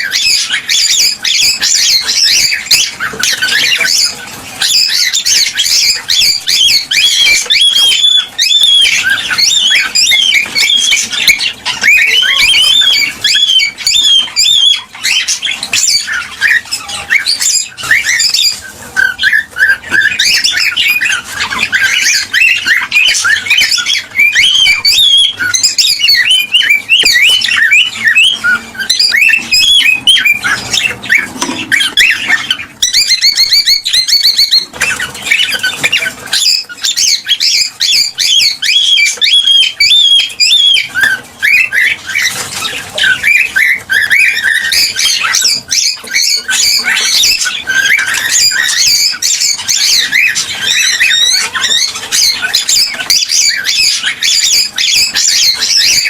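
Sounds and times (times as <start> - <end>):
cockatiels chattering and whistling: 0.0 - 56.0.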